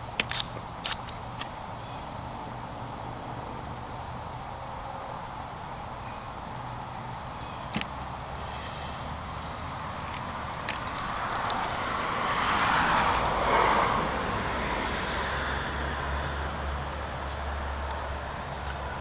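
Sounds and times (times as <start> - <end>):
background rumble and hiss: 0.0 - 19.0
faint high whine: 0.0 - 19.0.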